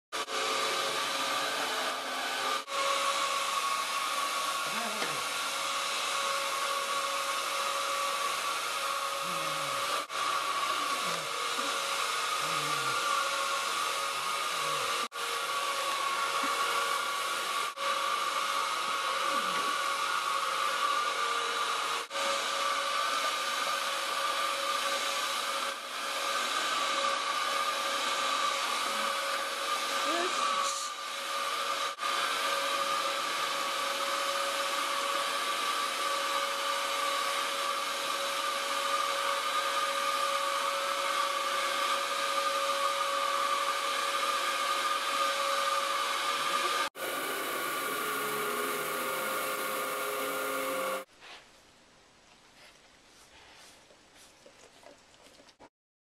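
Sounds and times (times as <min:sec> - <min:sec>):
vacuum cleaner motor whine: 0:00.2 - 0:51.1.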